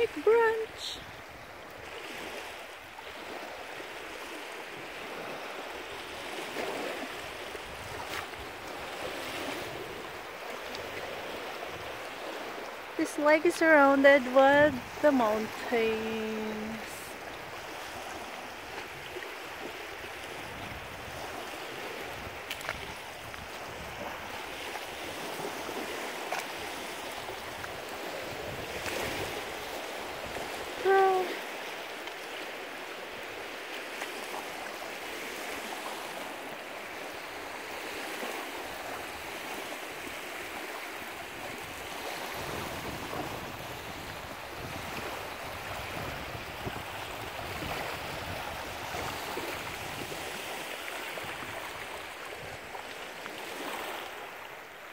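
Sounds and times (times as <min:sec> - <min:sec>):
small waves lapping on pebbles: 0:00.0 - 0:54.9.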